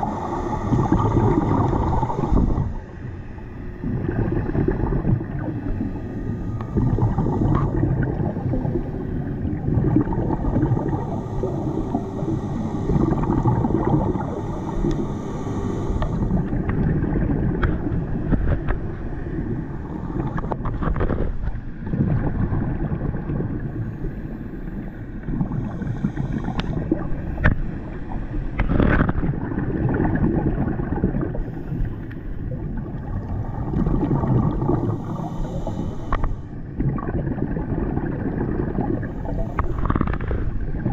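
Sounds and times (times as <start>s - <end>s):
regulator bubbles gurgling underwater: 0.0s - 40.9s.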